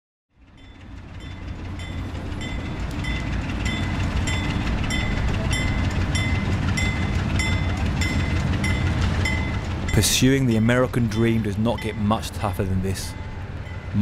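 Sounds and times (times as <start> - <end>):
train rumble: 0.3 - 14.0
wheels clacking on track: 0.4 - 14.0.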